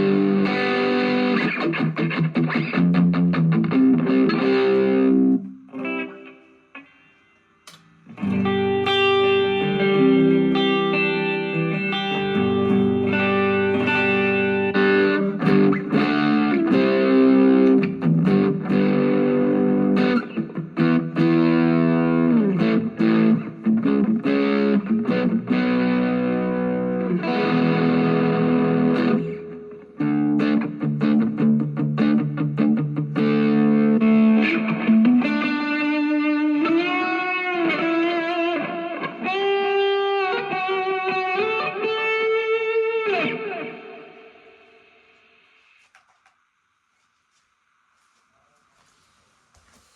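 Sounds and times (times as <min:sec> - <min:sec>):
electric guitar playing: 0:00.0 - 0:45.6.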